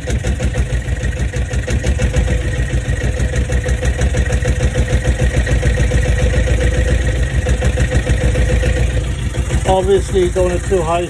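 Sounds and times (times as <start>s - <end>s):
marine diesel engine idling: 0.0s - 11.0s.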